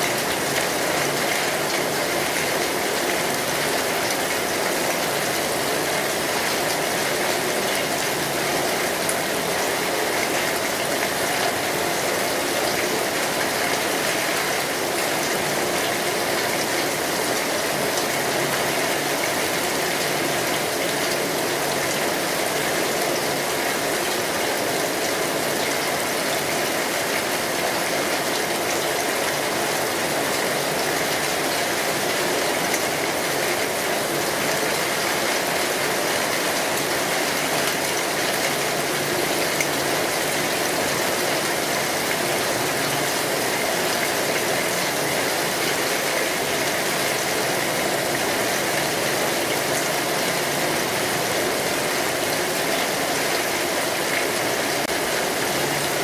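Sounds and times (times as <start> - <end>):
steady rain on a street: 0.0 - 56.0.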